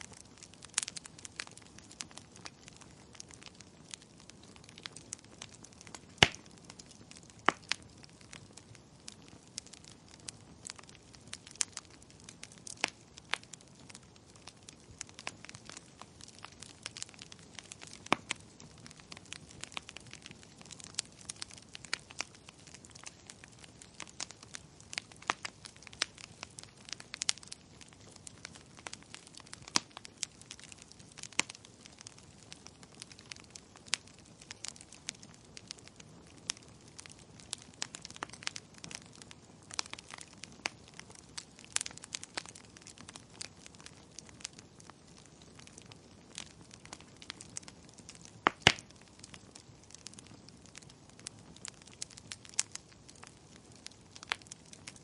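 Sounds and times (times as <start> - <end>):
fire popping and snapping: 0.0 - 55.0
wood fire crackling: 0.0 - 55.0.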